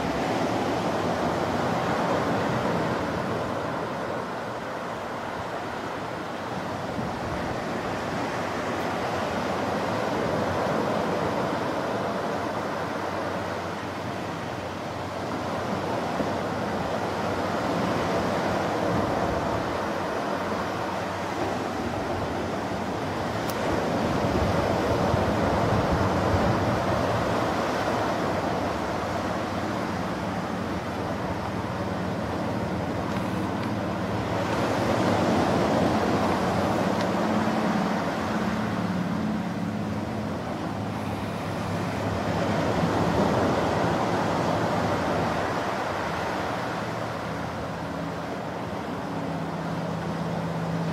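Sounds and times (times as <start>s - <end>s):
surf waves breaking on beach: 0.0s - 50.9s.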